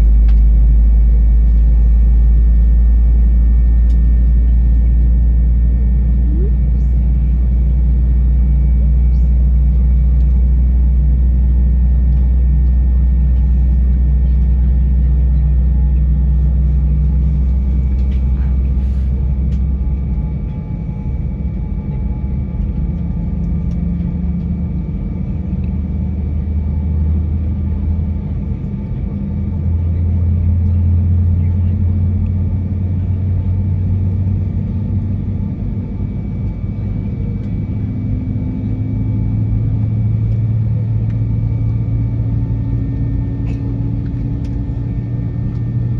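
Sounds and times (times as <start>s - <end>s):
jet engine rumble in cabin: 0.0s - 45.9s.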